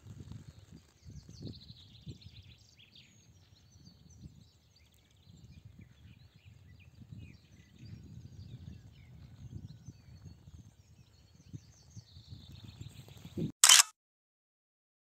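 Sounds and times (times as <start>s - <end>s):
wind rumble on microphone: 0.0s - 13.5s
small birds chirping and trilling: 0.5s - 13.4s.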